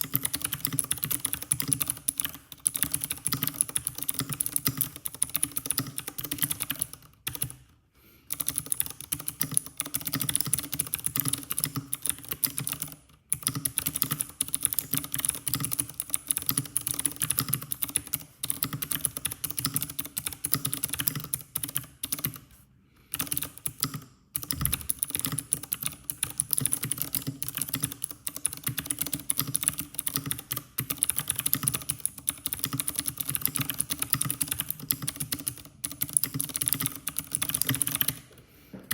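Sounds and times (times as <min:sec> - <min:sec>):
clicky mechanical keyboard typing: 0:00.0 - 0:07.6, 0:08.3 - 0:22.4, 0:23.1 - 0:38.3.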